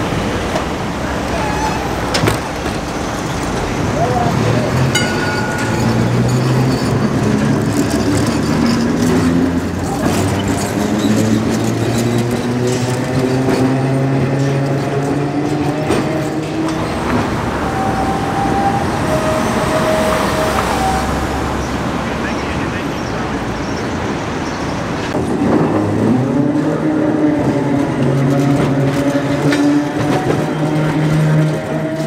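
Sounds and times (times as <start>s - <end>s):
city traffic noise: 0.0s - 32.0s
streetcar motor hum: 0.0s - 32.0s.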